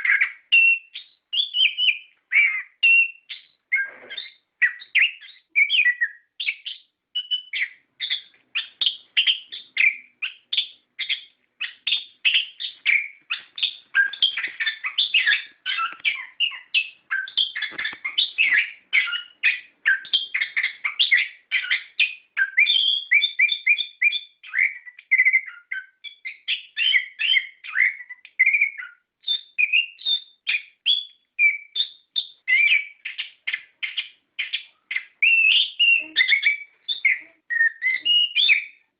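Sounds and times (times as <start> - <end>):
thrush singing whistled trills: 0.0 - 38.9.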